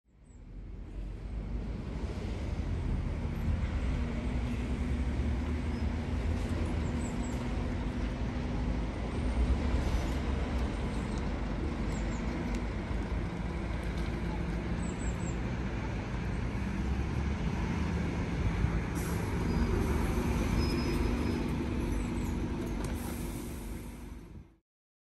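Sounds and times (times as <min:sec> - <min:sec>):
diesel bus engines rumbling: 0:00.2 - 0:24.6.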